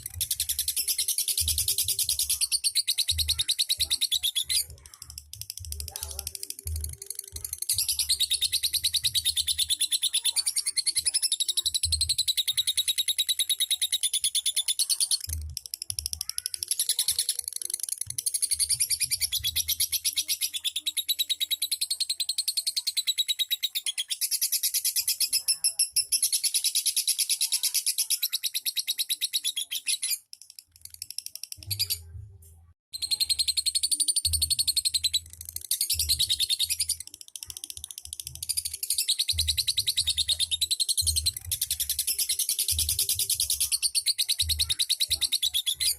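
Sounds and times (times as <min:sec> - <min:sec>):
bird chattering trill: 0:00.0 - 0:32.0, 0:33.0 - 0:45.9.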